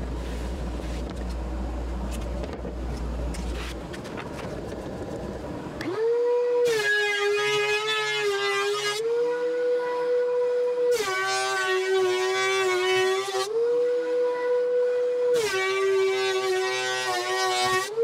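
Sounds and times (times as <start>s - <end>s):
thickness planer whining: 0.0s - 18.0s.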